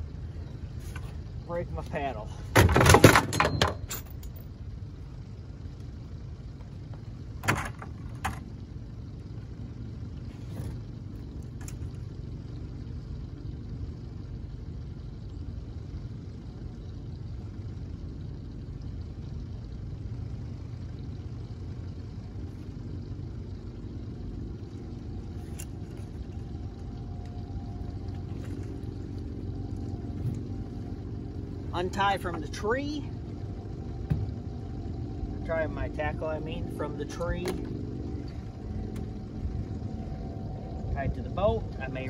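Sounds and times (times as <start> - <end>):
outboard motor idling: 0.0 - 42.0.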